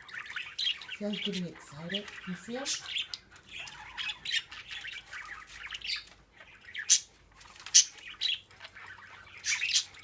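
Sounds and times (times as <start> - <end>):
budgerigars chattering and warbling: 0.0 - 10.0
loud budgerigar squawks: 0.0 - 10.0.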